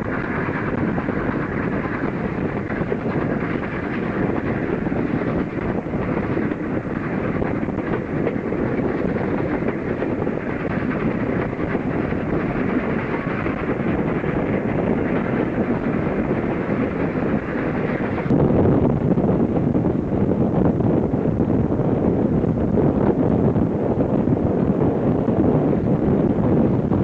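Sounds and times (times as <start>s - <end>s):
steam train rumbling: 0.0s - 27.0s
wind on microphone: 0.0s - 27.0s.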